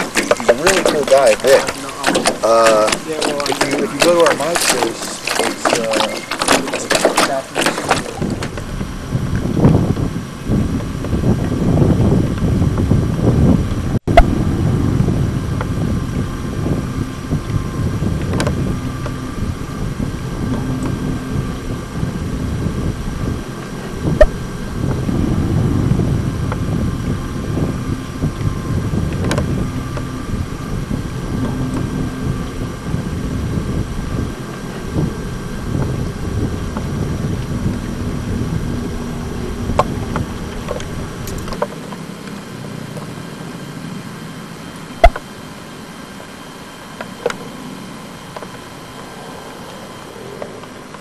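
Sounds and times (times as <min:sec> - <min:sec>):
low rumbling background noise: 0:00.0 - 0:51.0
wind buffeting microphone: 0:00.0 - 0:51.0.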